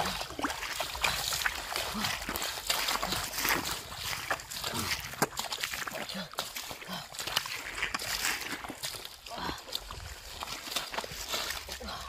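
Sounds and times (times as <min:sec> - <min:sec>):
fish thrashing in water: 0:00.0 - 0:12.0
water splashing and sloshing: 0:00.0 - 0:12.0.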